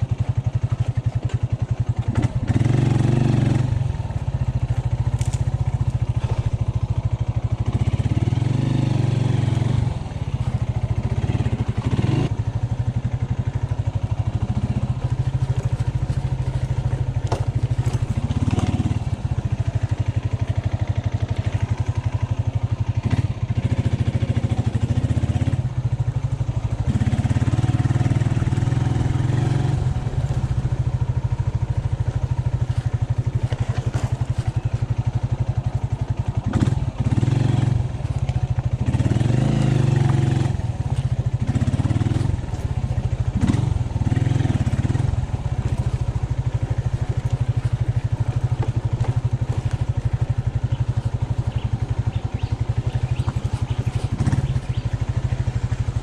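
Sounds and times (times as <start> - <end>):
motorcycle engine revving: 0.0 - 56.0
motorcycle rattling over stones: 0.0 - 56.0.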